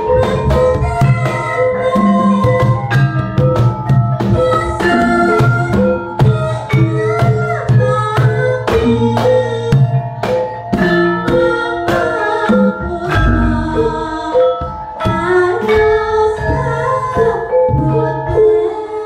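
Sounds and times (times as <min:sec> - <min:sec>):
hand drum: 0:00.0 - 0:18.9
gamelan metallophones and gong-chimes: 0:00.0 - 0:19.0.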